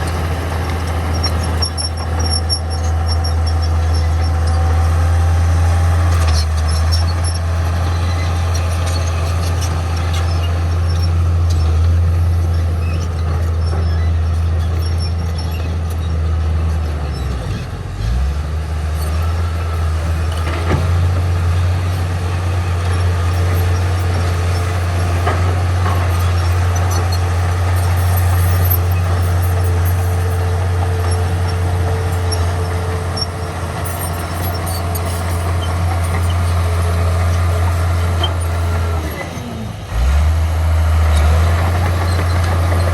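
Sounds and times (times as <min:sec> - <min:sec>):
heavy diesel engine rumbling: 0:00.0 - 0:42.9.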